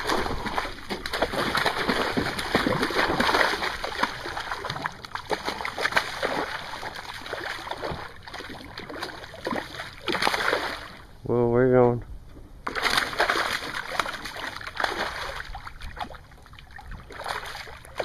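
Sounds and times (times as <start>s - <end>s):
fish splashing in water: 0.0s - 11.0s, 12.6s - 18.0s.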